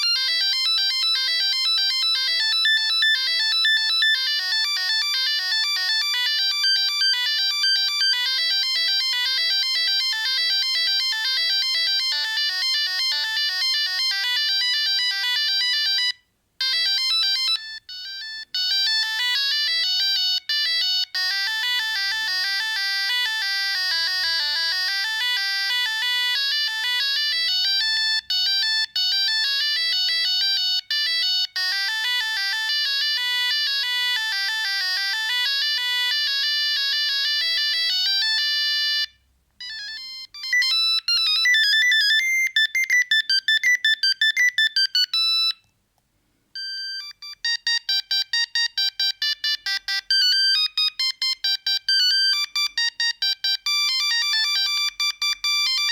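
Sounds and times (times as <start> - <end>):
mobile phone ringtone melodies: 0.0 - 45.7, 46.5 - 55.9.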